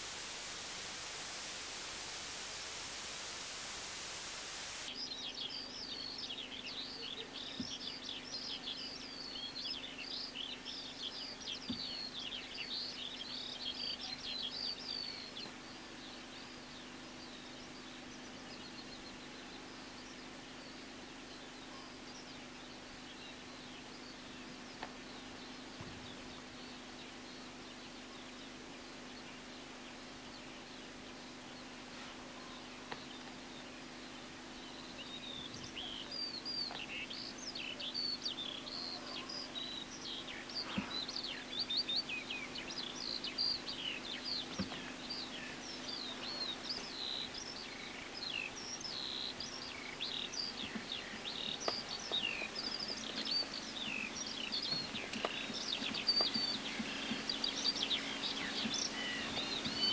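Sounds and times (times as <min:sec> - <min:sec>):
songbird chirping and trilling: 0:00.0 - 0:59.9
steady low hum: 0:00.0 - 0:59.9.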